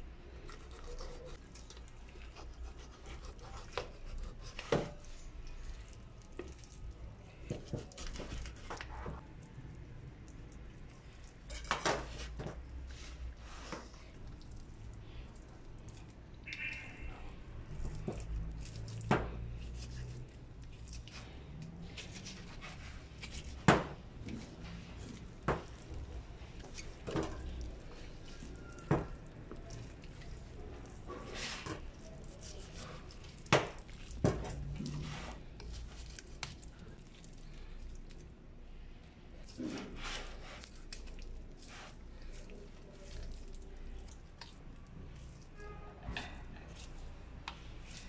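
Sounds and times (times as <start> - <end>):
wet handling of raw chicken: 0.0 - 48.0.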